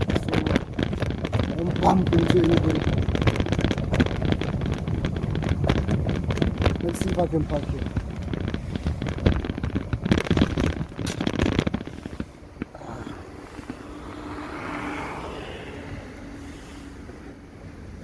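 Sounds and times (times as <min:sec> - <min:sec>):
faint steady hum: 0:00.0 - 0:18.0
passing traffic: 0:00.0 - 0:18.0
road noise: 0:00.0 - 0:18.0
wind buffeting microphone: 0:00.0 - 0:18.0.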